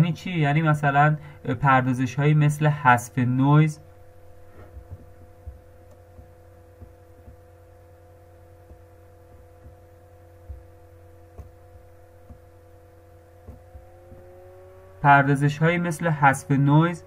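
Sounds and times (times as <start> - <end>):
faint steady tones: 0.0 - 17.0
low electrical hum: 0.0 - 17.0.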